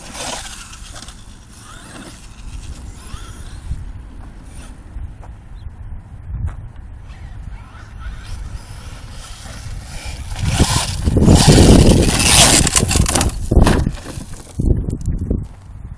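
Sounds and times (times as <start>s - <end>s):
rc monster truck driving over gravel: 0.0s - 5.0s, 7.7s - 15.7s.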